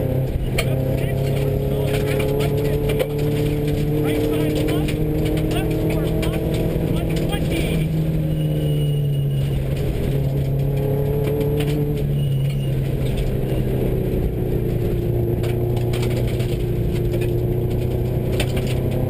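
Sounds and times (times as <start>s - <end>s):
car engine at speed: 0.0s - 19.0s
gravel rattling under car: 0.0s - 19.0s.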